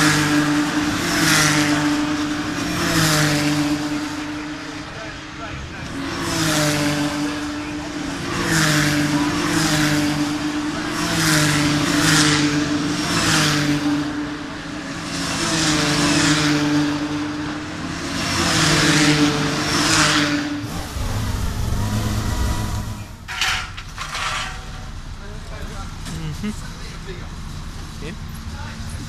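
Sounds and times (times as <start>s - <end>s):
racing cars passing at speed: 0.0s - 26.1s
steady engine drone: 0.0s - 29.0s.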